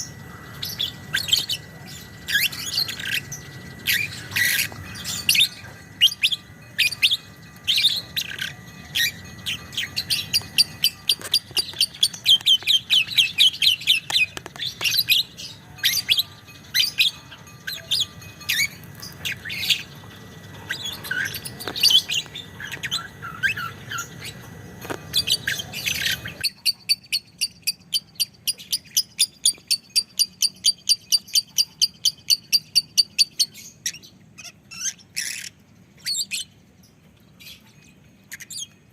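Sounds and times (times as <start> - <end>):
lovebird chattering trill: 0.0 - 36.5
lovebird chirping and chattering: 0.0 - 36.6, 37.4 - 38.8.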